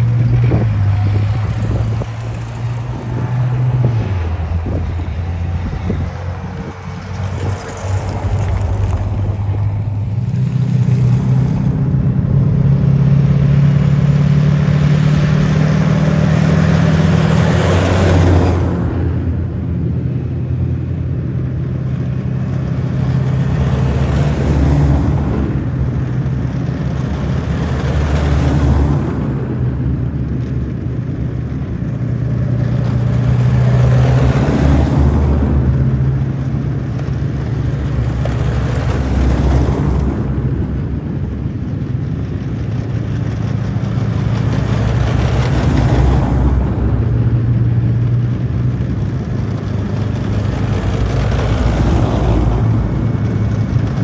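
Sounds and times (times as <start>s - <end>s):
vehicle tracks clattering: 0.0s - 12.2s, 22.0s - 54.0s
diesel engine drone: 0.0s - 54.0s.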